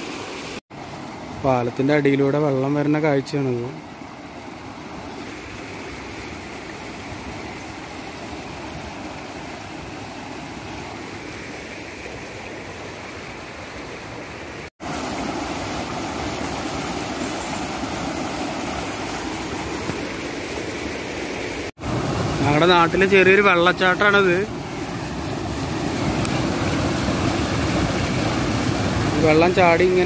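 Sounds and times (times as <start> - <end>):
stream tumbling over rocks: 0.0 - 30.0
stream water rushing: 0.0 - 30.0.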